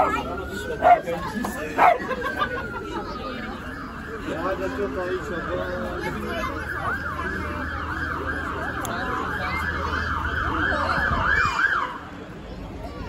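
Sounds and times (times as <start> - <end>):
fire engine siren yelping: 0.0 - 12.2.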